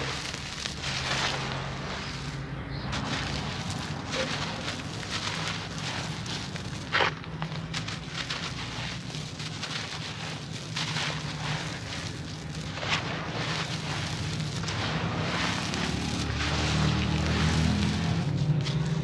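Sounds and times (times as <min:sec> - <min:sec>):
gravel poured through fingers: 0:00.0 - 0:19.0.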